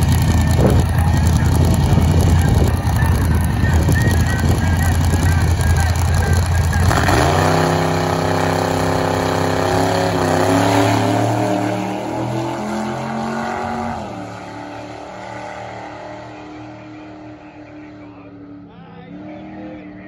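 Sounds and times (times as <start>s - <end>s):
dragster engine at full throttle: 0.0s - 18.0s.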